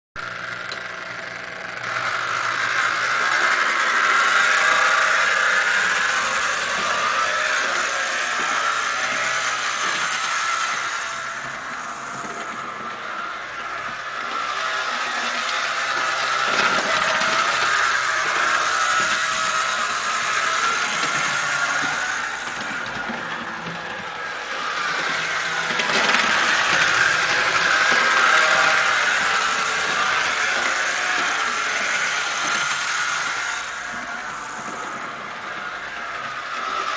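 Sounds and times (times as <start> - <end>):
model train motor whirring: 0.2 - 36.9.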